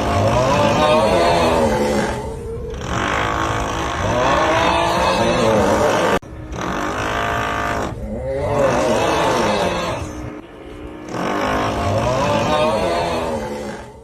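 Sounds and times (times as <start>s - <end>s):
groaning snore: 0.0s - 10.4s, 11.0s - 14.0s
drilling noise: 0.0s - 13.8s.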